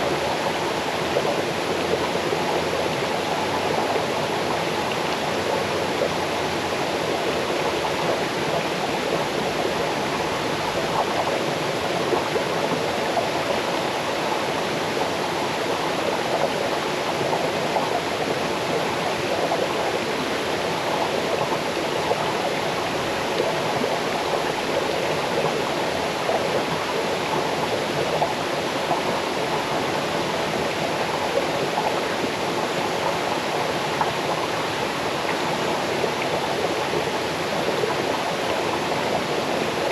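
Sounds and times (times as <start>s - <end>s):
small waterfall cascading over rocks: 0.0s - 39.9s.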